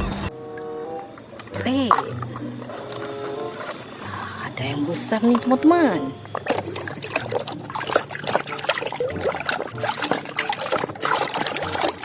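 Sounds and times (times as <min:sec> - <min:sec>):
water trickling and splashing: 0:00.4 - 0:12.0.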